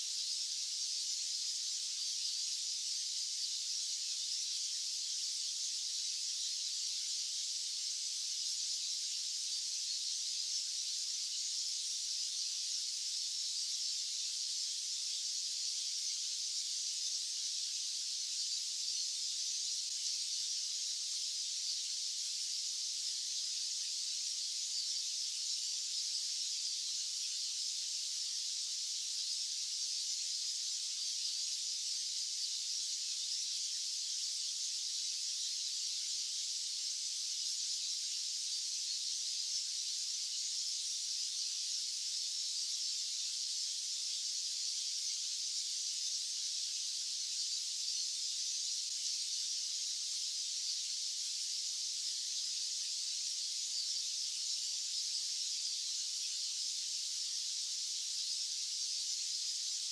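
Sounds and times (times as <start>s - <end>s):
high-pitched white noise hiss: 0.0s - 59.9s.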